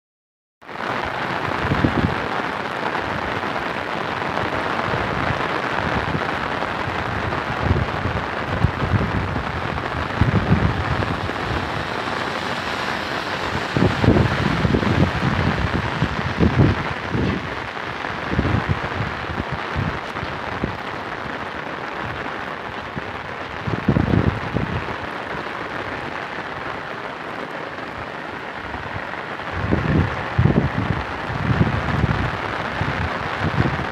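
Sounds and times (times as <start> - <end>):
heavy rain on concrete: 0.6 - 33.9.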